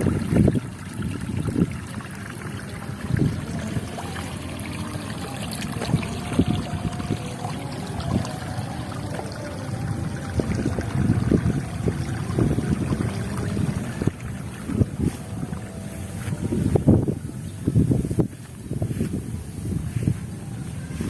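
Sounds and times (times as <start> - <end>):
water trickling: 0.0 - 18.4
wind rumbling on microphone: 0.0 - 21.0.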